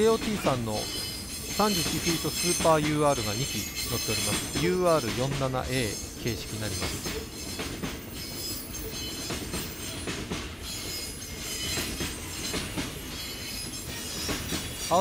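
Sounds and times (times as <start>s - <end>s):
freight train rumble: 0.0s - 15.0s
wheel clacks over rail joints: 0.0s - 15.0s.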